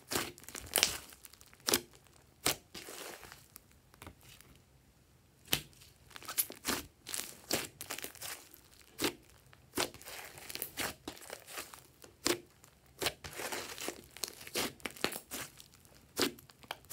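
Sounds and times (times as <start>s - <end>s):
slime popping and crackling: 0.0s - 4.0s, 5.5s - 16.9s.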